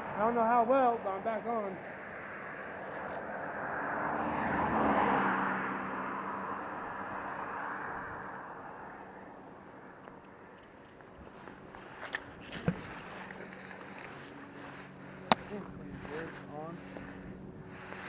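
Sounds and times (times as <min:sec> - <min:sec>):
vehicle passing on road: 0:00.0 - 0:18.0.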